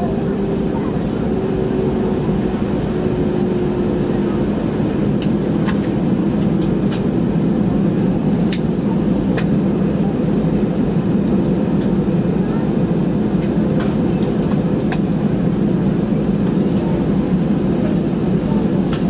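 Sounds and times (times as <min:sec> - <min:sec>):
jet engine and airframe rumble: 0:00.0 - 0:19.0.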